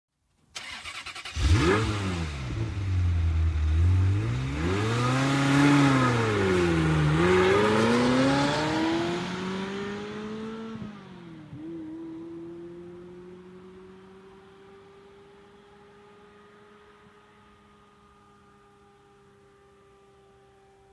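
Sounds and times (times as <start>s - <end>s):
car engine idling and revving: 0.6s - 20.9s.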